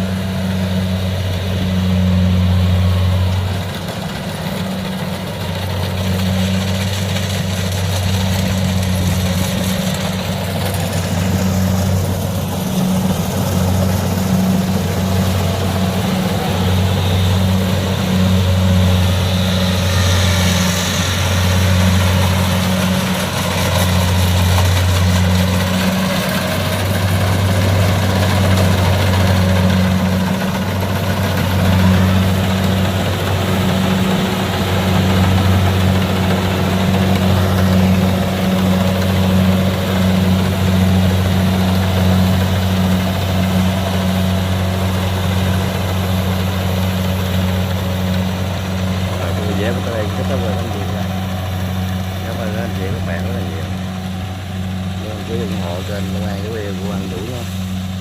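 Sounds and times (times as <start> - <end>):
combine harvester diesel engine: 0.0 - 58.0
machinery clatter: 0.0 - 58.0.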